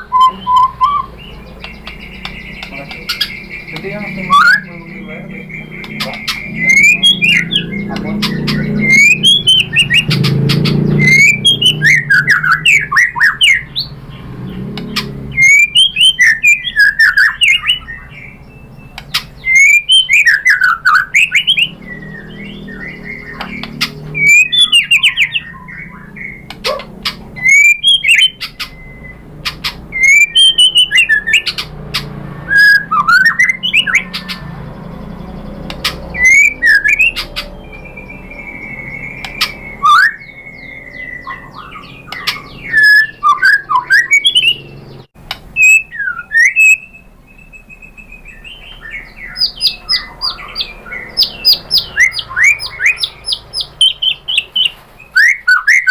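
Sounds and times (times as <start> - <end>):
bird singing whistled phrases: 0.0 - 14.0, 14.8 - 31.7, 32.4 - 45.0, 45.6 - 55.9.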